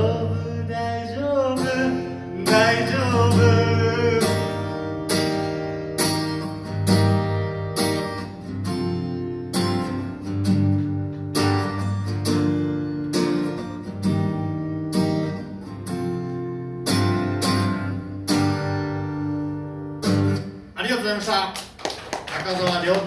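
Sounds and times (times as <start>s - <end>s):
acoustic guitar slow strummed chords: 0.0s - 20.8s.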